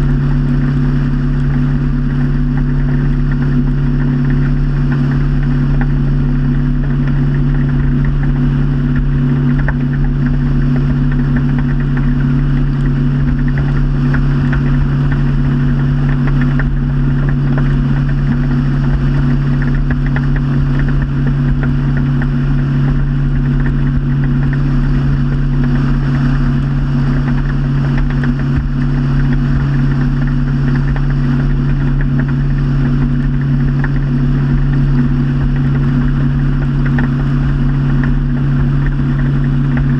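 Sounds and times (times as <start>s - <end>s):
motorboat engine droning: 0.0s - 39.9s
rushing water noise: 0.0s - 39.9s.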